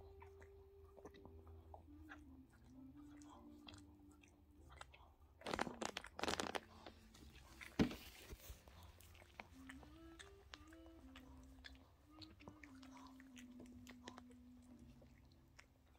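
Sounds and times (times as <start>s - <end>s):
dog licking and chewing: 0.0s - 15.9s.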